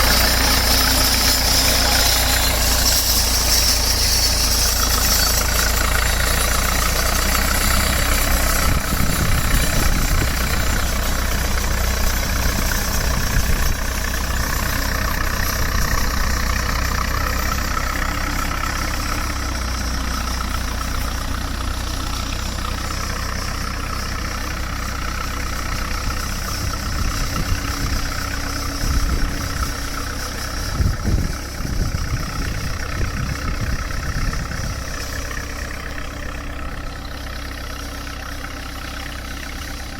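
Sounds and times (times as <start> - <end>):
heavy low engine thumps: 0.0 - 39.9
tractor engine idling: 0.0 - 39.9.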